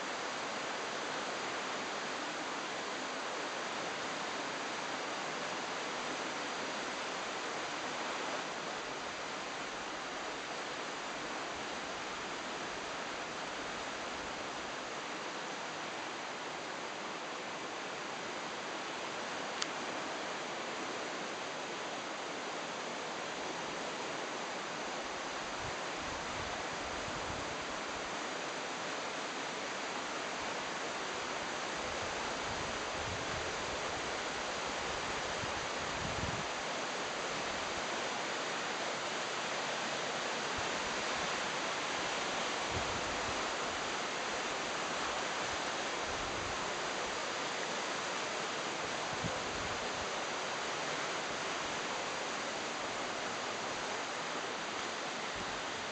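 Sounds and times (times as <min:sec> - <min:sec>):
river current rushing: 0:00.0 - 0:55.9.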